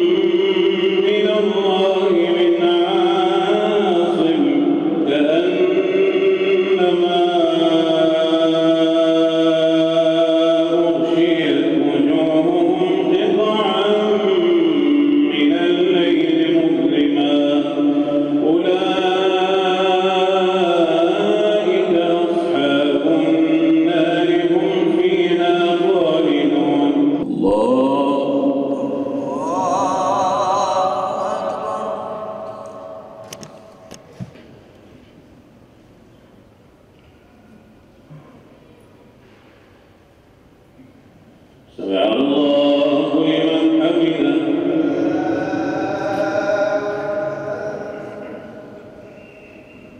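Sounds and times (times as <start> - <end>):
man chanting recitation: 0.0 - 34.0, 41.7 - 49.2.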